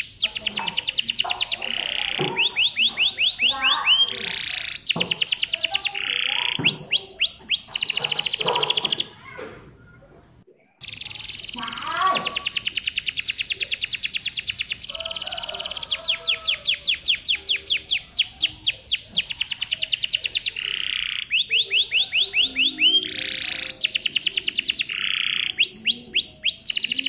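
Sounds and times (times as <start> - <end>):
canary singing fast trills: 0.0 - 9.4, 10.8 - 27.0.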